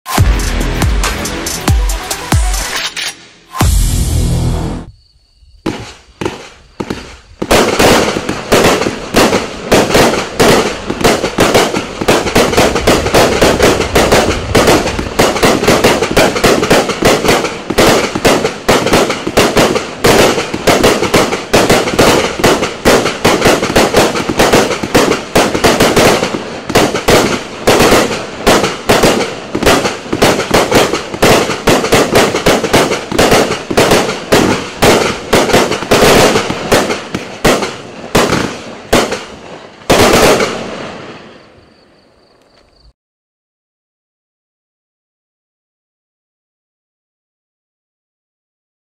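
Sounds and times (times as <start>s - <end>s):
fireworks barrage: 0.1s - 42.0s.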